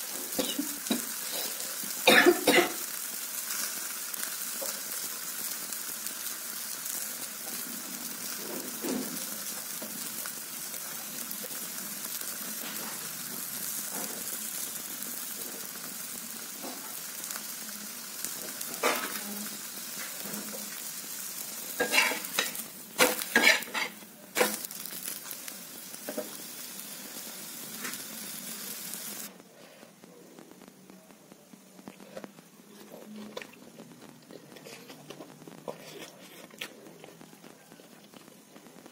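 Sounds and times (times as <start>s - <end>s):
pancake sizzling on a hot pan: 0.0s - 32.8s, 33.5s - 38.9s.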